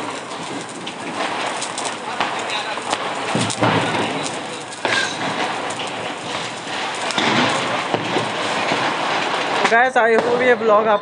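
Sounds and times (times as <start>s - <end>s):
sharp pops: 0.0s - 10.5s
sparkler fizzing and crackling: 0.0s - 11.0s.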